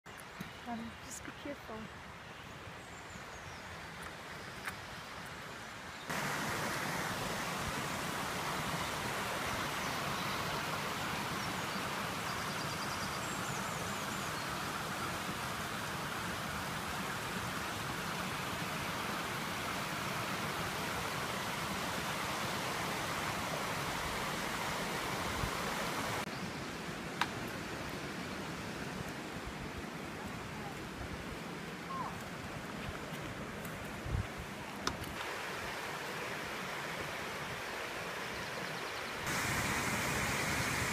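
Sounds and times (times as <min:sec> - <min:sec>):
quiet outdoor background: 0:00.0 - 0:40.9
stream flowing over rocks: 0:03.7 - 0:40.9.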